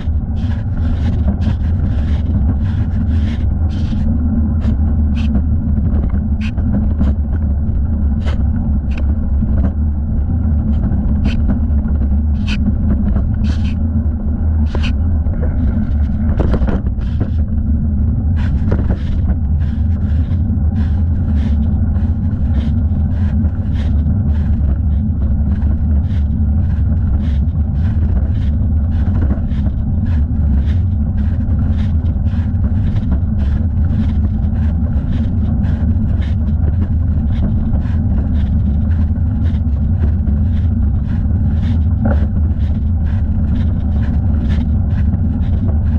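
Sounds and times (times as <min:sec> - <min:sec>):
road rumble: 0:00.0 - 0:45.9
wind noise: 0:00.0 - 0:45.9.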